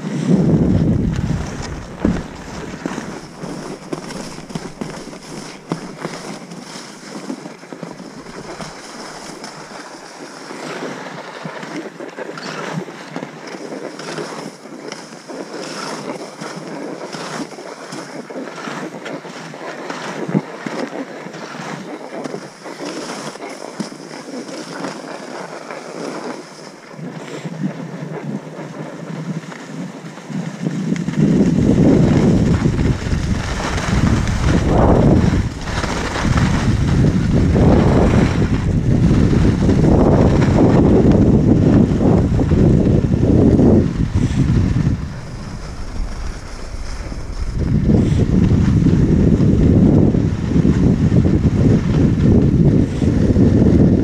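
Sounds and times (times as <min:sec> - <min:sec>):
sharp ski scrape: 0:00.0 - 0:53.9
skis hissing over snow: 0:00.0 - 0:54.0.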